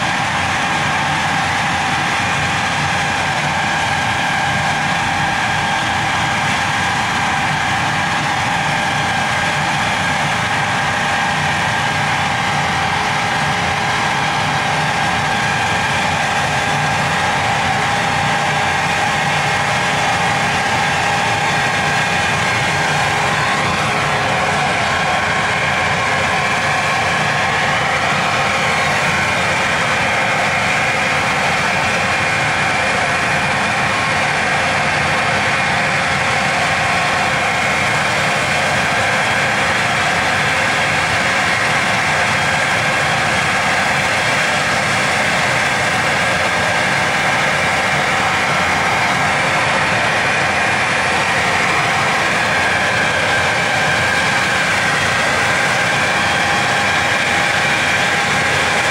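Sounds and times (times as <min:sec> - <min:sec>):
machine droning with whining tones: 0:00.0 - 0:58.9.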